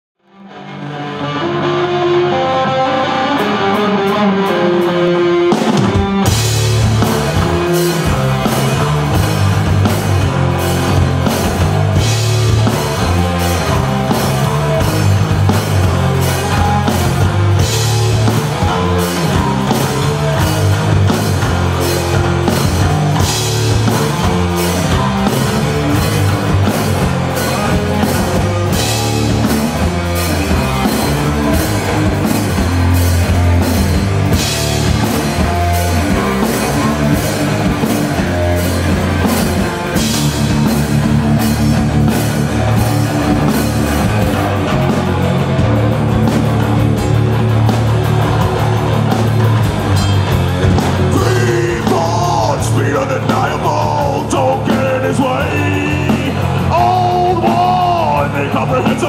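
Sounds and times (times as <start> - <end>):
distorted electric guitar riff: 0.2 - 59.0
heavy rock band playing: 0.3 - 59.0.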